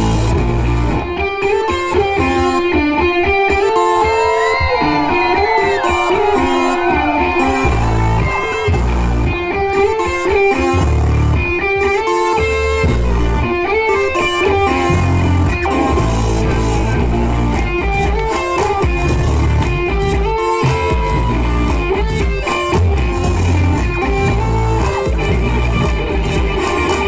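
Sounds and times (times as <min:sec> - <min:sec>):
bass notes: 0:00.0 - 0:27.0
guitar background music: 0:00.0 - 0:27.0.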